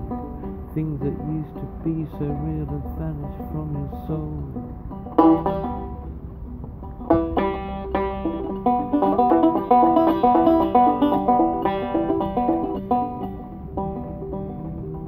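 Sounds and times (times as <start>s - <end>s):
banjo plucking: 0.0s - 15.0s.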